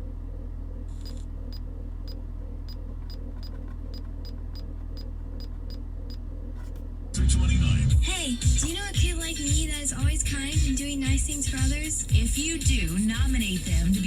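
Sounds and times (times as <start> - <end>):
car engine humming: 0.0 - 14.0
faint regular ticking: 0.1 - 7.2, 7.9 - 14.0.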